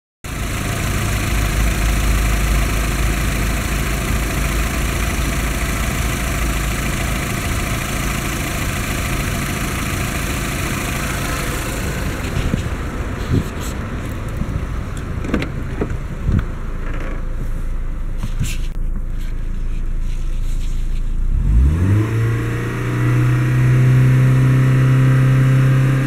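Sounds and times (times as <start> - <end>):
car engine idling: 0.3 - 21.7.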